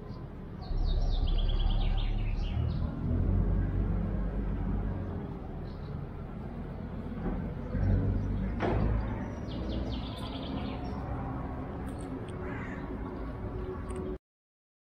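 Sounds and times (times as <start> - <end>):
bird chirping trill: 0.0 - 4.0, 4.8 - 14.2
low steady rumble: 0.0 - 14.2.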